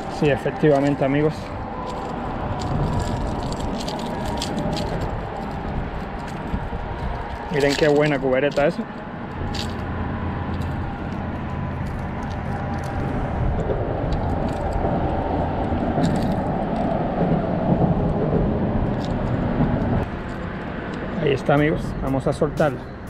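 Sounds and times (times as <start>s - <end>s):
traffic rumbling overhead: 0.0s - 23.0s.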